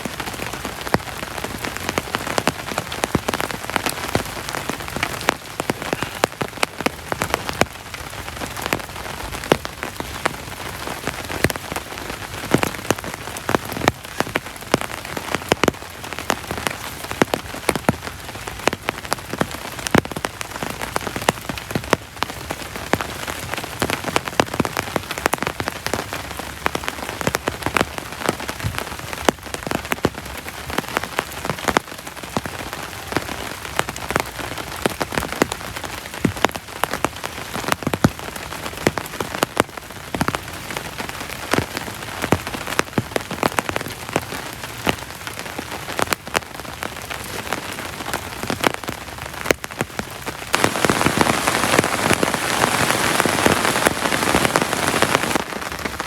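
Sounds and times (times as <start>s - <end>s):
heavy rain falling: 0.0s - 56.0s
raindrops striking a surface: 0.0s - 56.0s.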